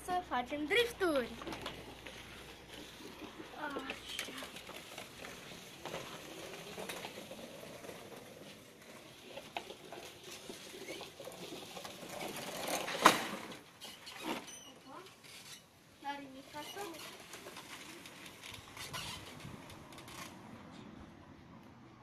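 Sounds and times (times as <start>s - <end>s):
wheels crunching on snow: 0.0s - 21.0s.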